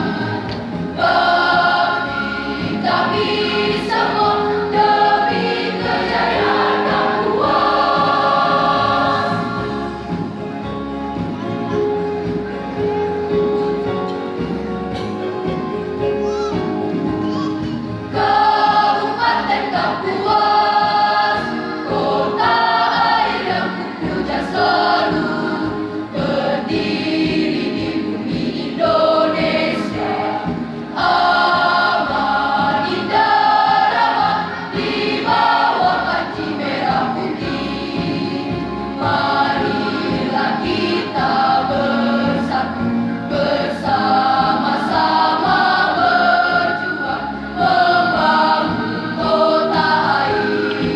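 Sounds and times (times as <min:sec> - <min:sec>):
choir singing a march song: 0:00.0 - 0:10.8, 0:18.1 - 0:50.9.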